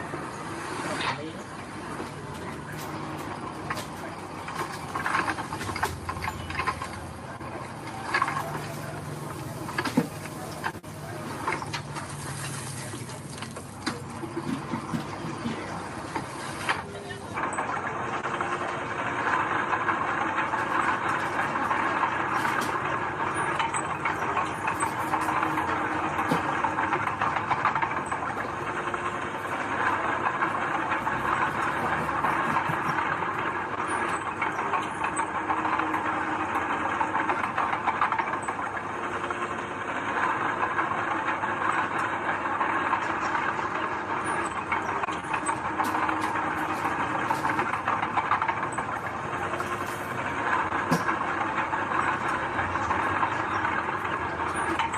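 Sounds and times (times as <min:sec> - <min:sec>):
heavy machinery engine running: 0:00.0 - 0:54.9.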